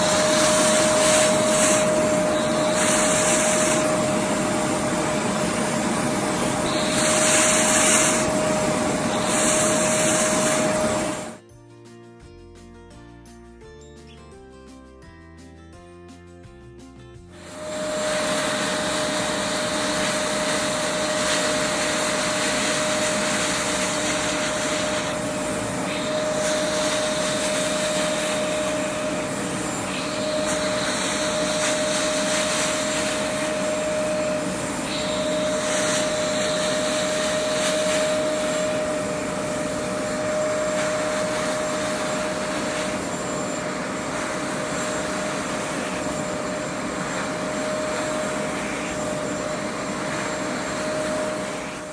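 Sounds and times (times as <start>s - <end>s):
carpet cleaner motor whine: 0.0s - 11.4s, 17.4s - 51.9s
carpet cleaner rushing hiss: 0.0s - 11.4s, 17.4s - 51.9s.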